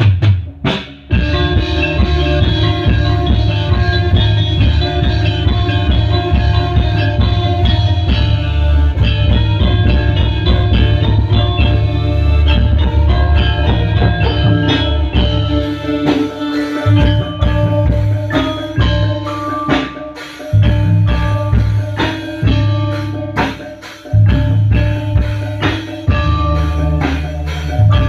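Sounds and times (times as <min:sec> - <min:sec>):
heavy bass: 0:00.0 - 0:19.8, 0:20.4 - 0:28.0
drum kit: 0:00.0 - 0:28.0
metallophones struck with mallets: 0:00.0 - 0:28.0
electronic keyboard: 0:01.1 - 0:28.0.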